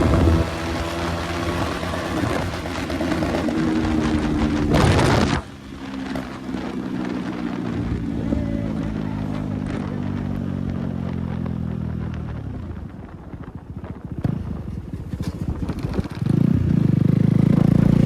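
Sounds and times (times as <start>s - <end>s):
exhaust pops: 0.0s - 8.1s, 9.4s - 16.9s
motorcycle engine running: 0.0s - 18.0s.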